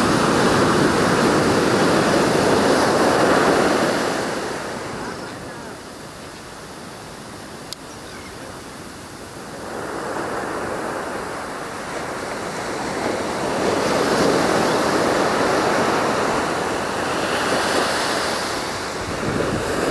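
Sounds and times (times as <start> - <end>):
ocean surf washing onto beach: 0.0 - 19.9.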